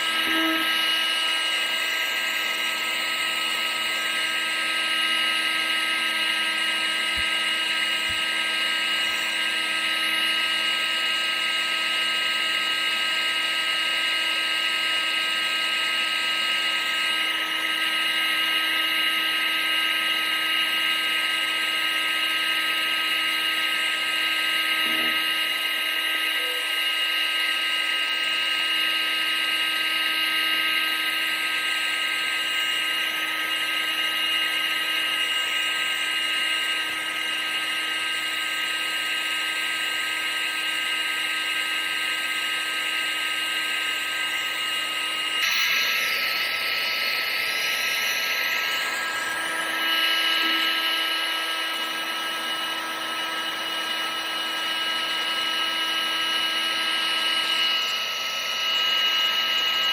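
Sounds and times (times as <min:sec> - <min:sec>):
vacuum cleaner motor whining: 0:00.0 - 0:59.9.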